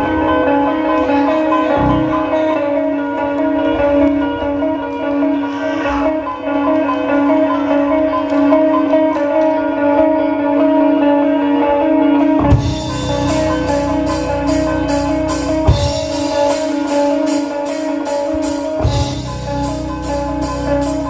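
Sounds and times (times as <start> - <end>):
band chord ringing: 0.0 - 4.8, 8.5 - 21.0.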